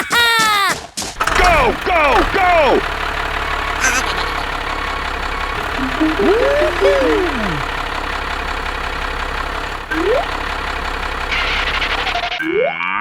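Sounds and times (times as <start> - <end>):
engine running: 1.1 - 12.4.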